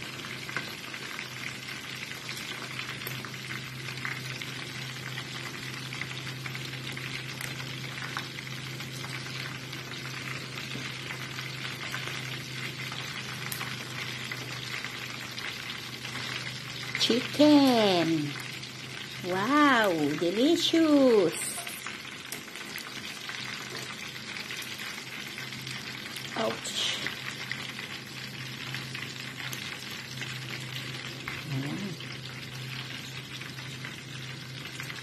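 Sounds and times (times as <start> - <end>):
chicken frying in oil: 0.0 - 35.0.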